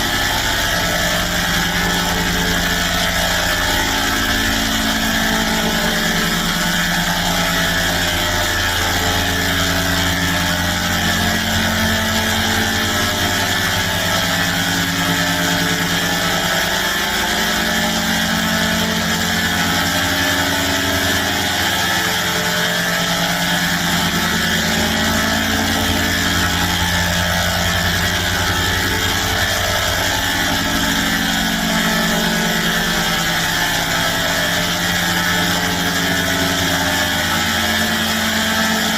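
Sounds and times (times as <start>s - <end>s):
buzzing electronic chord drone: 0.0s - 38.9s.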